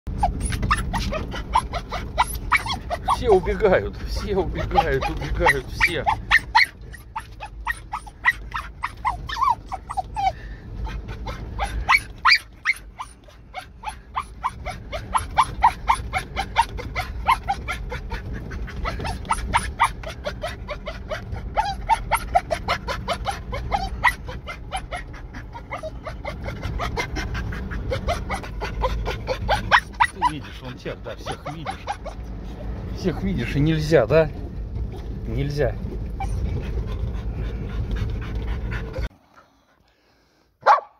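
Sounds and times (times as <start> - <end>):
dog whining and yipping: 0.1 - 33.6, 36.0 - 39.1.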